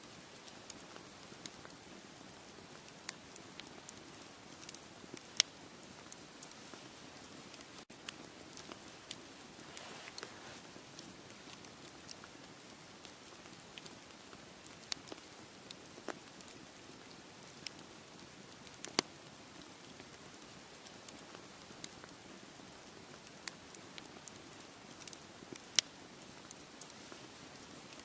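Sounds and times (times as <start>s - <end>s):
campfire crackling and popping: 0.1s - 28.0s.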